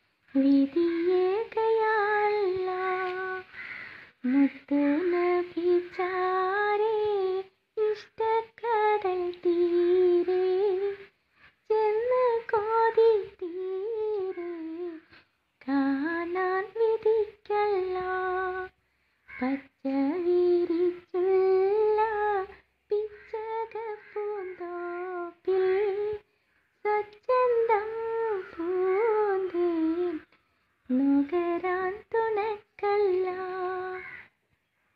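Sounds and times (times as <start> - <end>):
person singing unaccompanied: 0.0 - 34.5.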